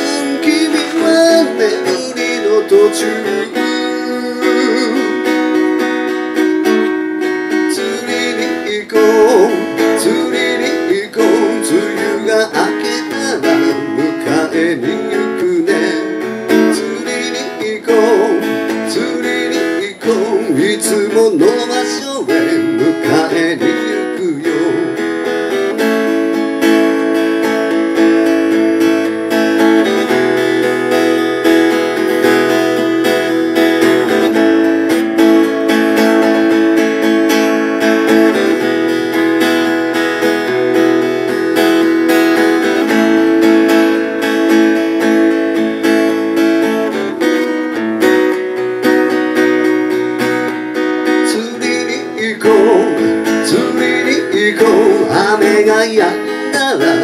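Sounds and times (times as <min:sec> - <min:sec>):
acoustic guitar strumming chords: 0:00.0 - 0:57.0.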